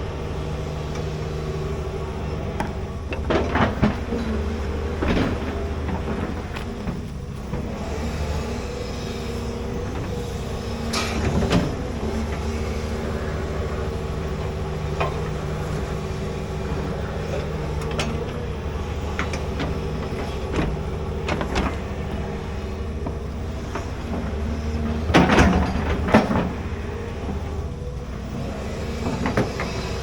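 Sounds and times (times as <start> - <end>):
excavator diesel engine: 0.0 - 30.0.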